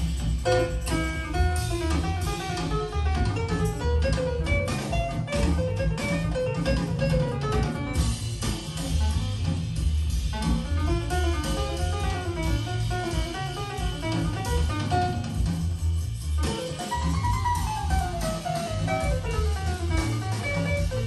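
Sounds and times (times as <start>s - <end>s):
jazz music through speakers: 0.0s - 21.0s.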